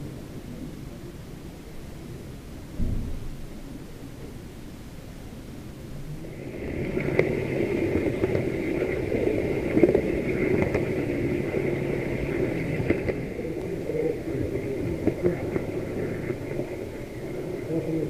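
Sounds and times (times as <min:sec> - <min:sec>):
model train rumble and whine: 0:03.4 - 0:18.0.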